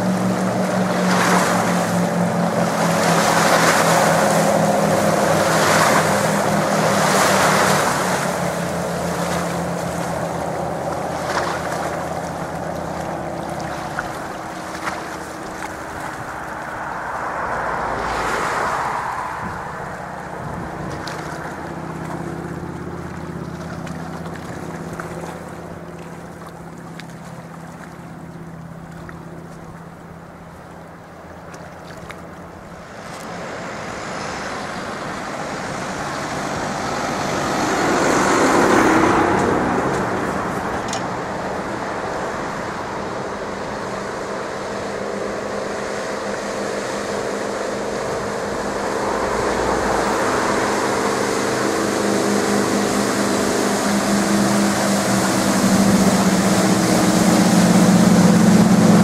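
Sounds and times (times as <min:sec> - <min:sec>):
boat engine drone: 0:00.0 - 0:59.0
hiss of bow wave and wake: 0:00.0 - 0:59.0.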